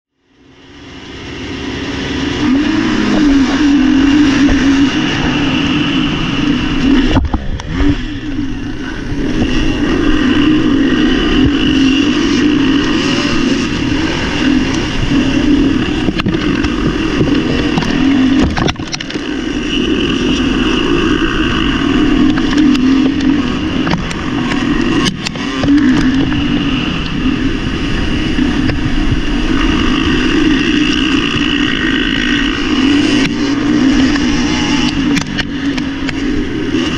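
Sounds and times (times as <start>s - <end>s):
motocross bike engine at full throttle: 0.1s - 36.9s.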